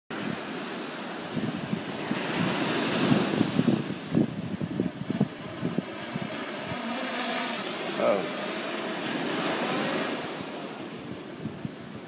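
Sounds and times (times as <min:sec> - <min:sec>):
surf washing on beach: 0:00.1 - 0:12.0
wind buffeting microphone: 0:00.1 - 0:12.0.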